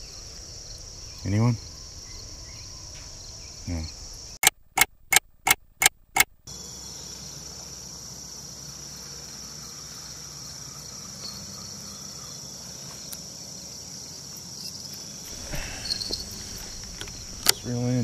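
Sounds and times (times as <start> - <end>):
high-pitched insect chorus: 0.0 - 4.4, 6.5 - 18.0.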